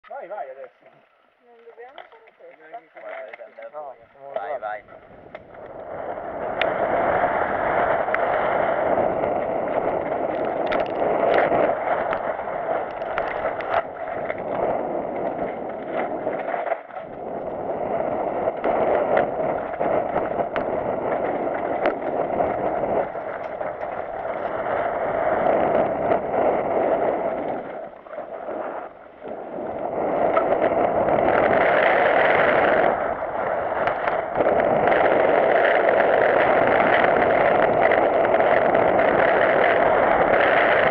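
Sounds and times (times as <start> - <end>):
wind on microphone: 0.0 - 40.9
bike clicking and rattling: 0.7 - 40.9.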